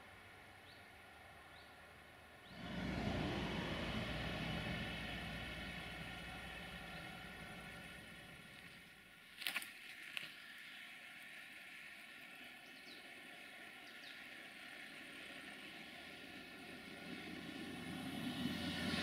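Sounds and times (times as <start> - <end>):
distant train approaching: 0.0 - 9.2, 10.4 - 19.0.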